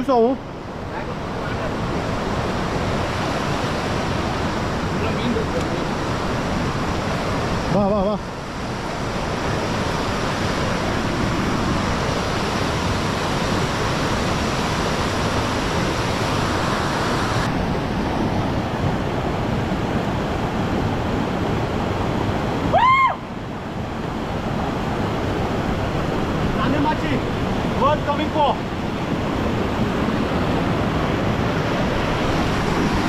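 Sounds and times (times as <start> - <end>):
waterfall rushing: 0.0 - 17.7, 19.8 - 33.0.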